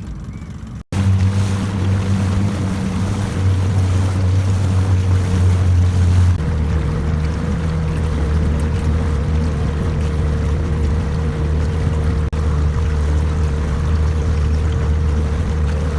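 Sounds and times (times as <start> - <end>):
outboard motor running: 0.0 - 15.9
water rushing: 0.9 - 15.9
wind noise: 0.9 - 15.9.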